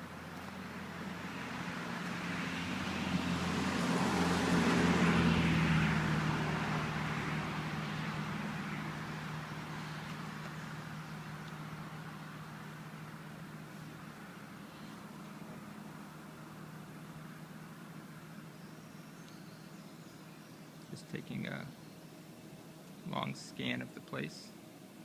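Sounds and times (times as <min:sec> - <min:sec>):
car driving past: 0:00.0 - 0:21.3.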